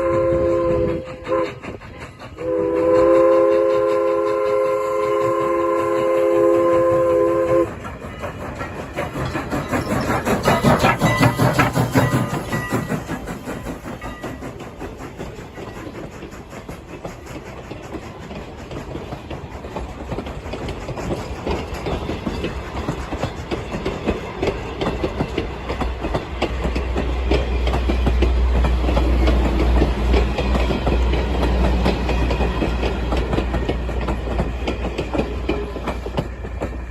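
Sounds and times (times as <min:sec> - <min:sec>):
deep train rumble: 0:00.0 - 0:36.9
train wheels clicking over rail joints: 0:00.0 - 0:36.9.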